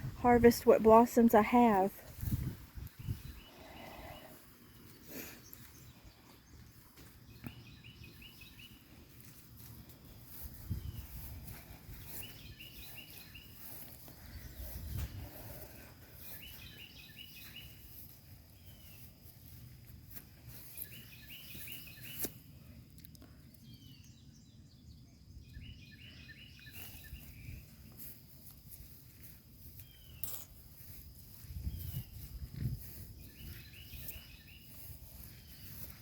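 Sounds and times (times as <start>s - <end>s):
faint outdoor background noise: 0.0s - 36.0s
songbird chirping: 0.0s - 36.0s.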